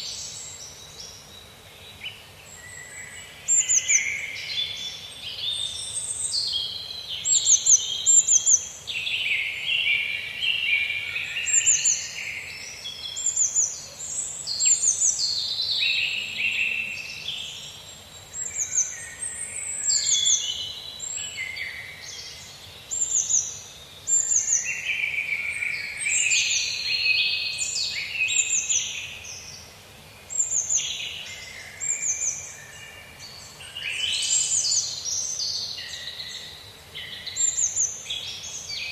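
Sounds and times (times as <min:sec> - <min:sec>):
birds singing in chorus: 0:00.0 - 0:38.9.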